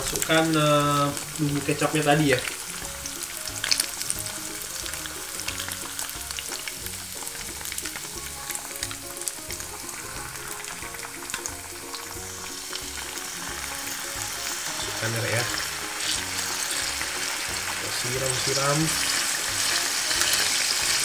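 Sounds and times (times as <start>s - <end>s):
eggs sizzling in a pan: 0.0s - 21.0s.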